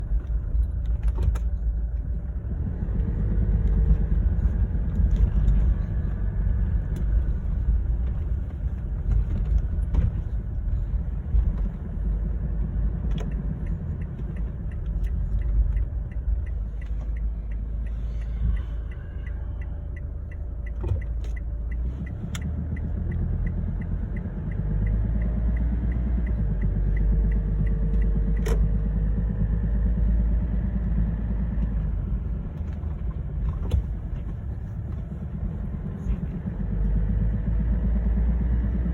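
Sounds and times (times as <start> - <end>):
diesel engine rumbling: 0.0 - 38.9
engine knock ticking: 0.0 - 38.9.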